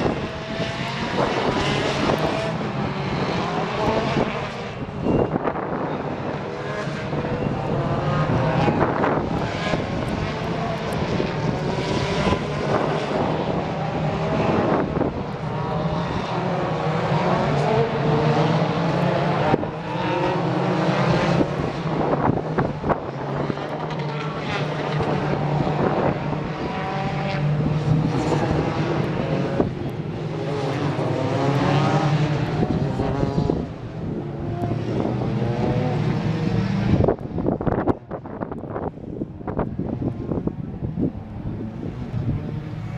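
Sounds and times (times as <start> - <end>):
racing cars passing: 0.0 - 42.9.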